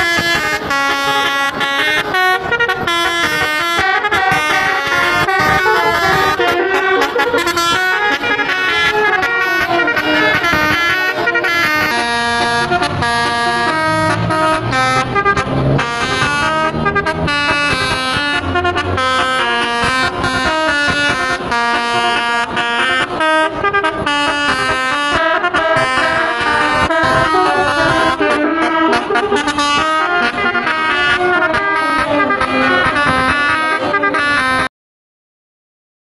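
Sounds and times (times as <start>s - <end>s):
multi-tone musical air horns: 0.0s - 34.7s.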